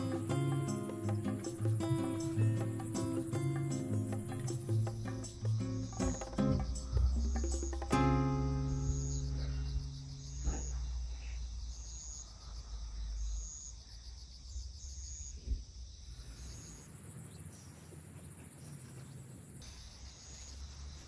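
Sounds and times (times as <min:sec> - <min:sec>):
insect chirps: 0:00.0 - 0:21.0
insects trilling: 0:00.0 - 0:21.0.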